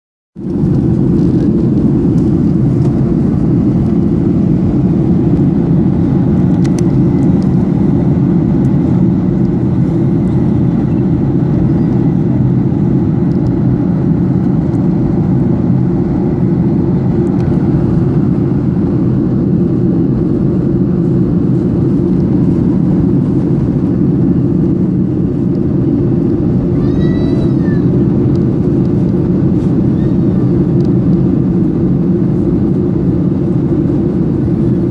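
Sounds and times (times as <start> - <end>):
jet engine rumble: 0.4 - 34.9
rushing air: 0.4 - 34.9.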